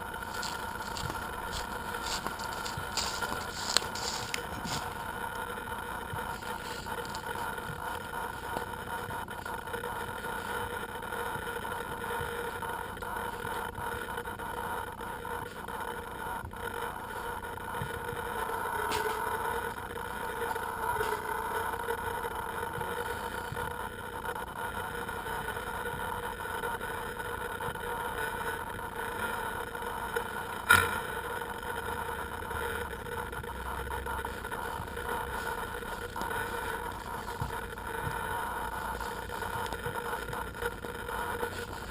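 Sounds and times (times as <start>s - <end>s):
drone motors humming: 0.0s - 41.9s.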